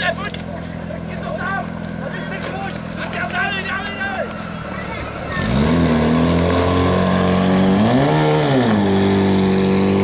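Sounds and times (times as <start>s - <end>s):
fire pump engine revving: 0.0s - 10.0s.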